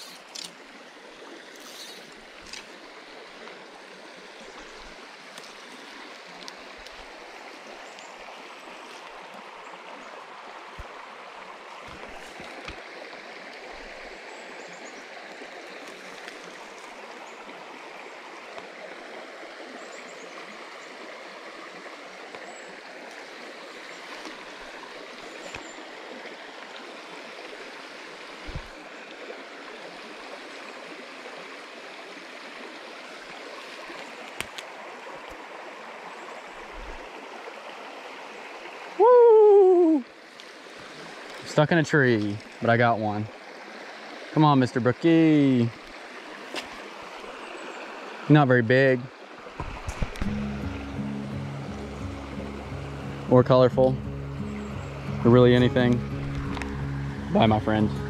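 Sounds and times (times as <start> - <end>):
creek water rushing over stones: 0.0 - 58.0.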